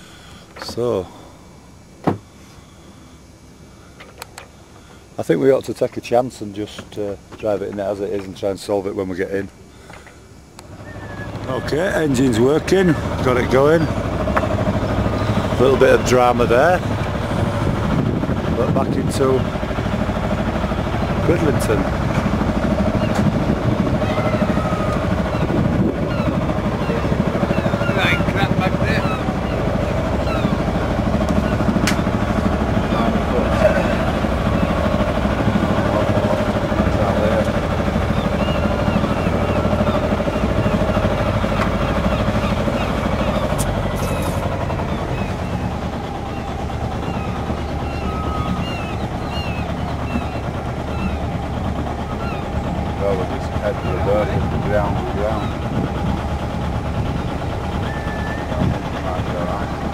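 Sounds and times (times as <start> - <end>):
boat engine running: 0.0 - 59.9
gull calls: 9.8 - 17.6, 18.7 - 59.9.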